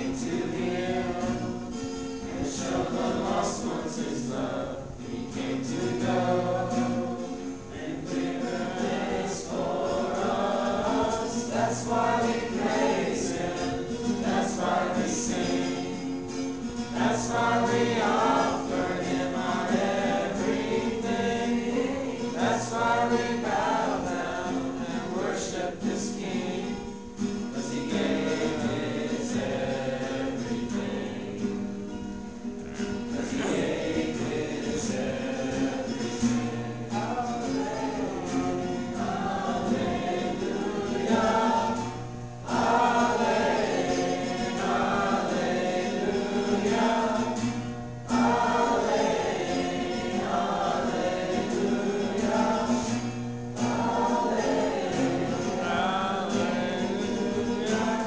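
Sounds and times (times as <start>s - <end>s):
choir singing gospel song: 0.0s - 58.0s
sustained held notes: 0.0s - 58.0s.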